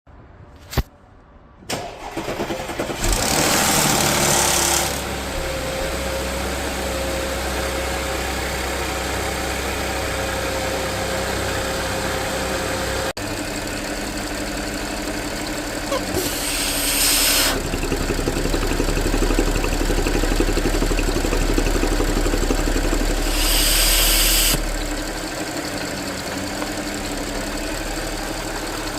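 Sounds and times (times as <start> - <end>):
car engine starting and idling: 1.6 - 28.9.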